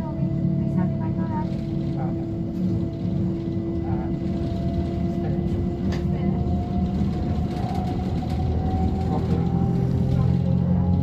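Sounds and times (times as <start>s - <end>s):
electric train motor whining: 0.0s - 11.0s.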